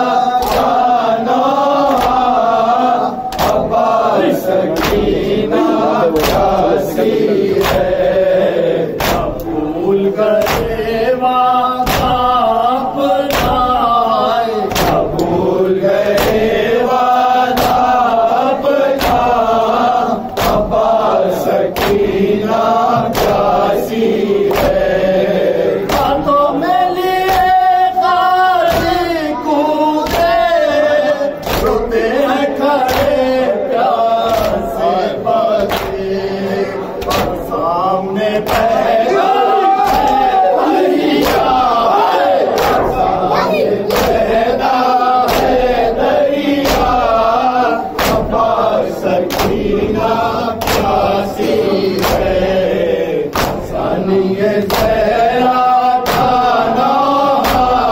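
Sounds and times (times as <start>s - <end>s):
men chanting a lament: 0.0s - 57.9s.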